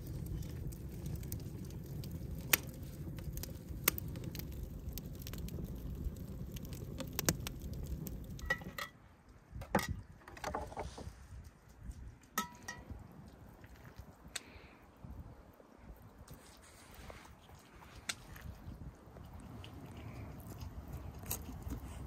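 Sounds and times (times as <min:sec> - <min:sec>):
fire burning with crackles: 0:00.0 - 0:22.0.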